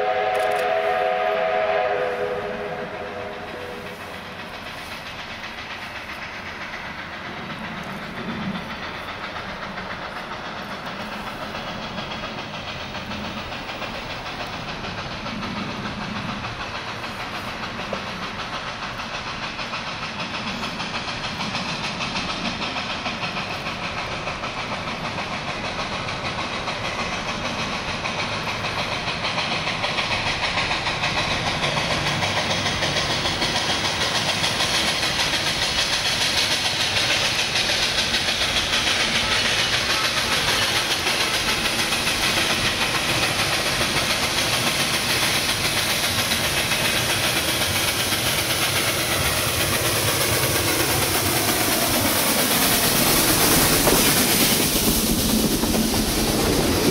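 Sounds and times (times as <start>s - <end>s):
steam hissing: 0.0s - 56.9s
steam locomotive chuffing: 0.0s - 56.9s.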